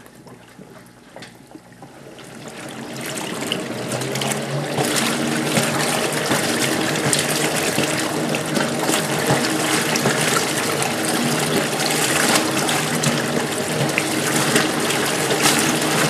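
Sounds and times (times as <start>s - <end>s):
washing machine motor hum: 0.0s - 16.0s
water splashing and churning: 0.0s - 16.0s.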